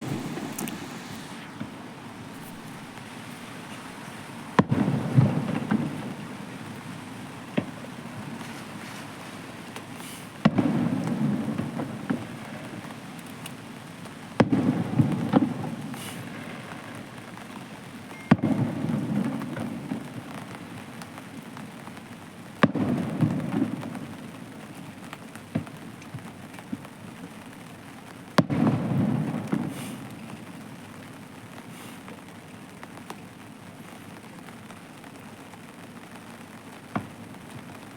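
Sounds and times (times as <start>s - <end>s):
fireworks bursting with crackle: 0.0s - 37.9s
steady background hiss: 0.0s - 37.9s.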